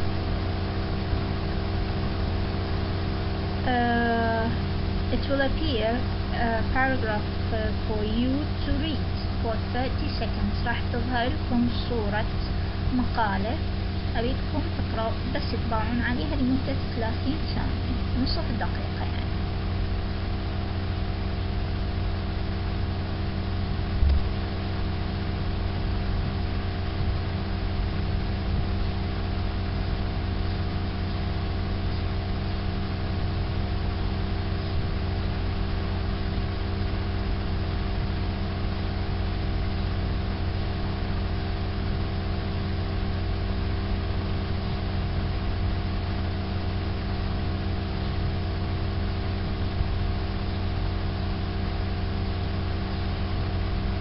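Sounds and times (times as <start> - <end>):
machine hum: 0.0 - 54.0.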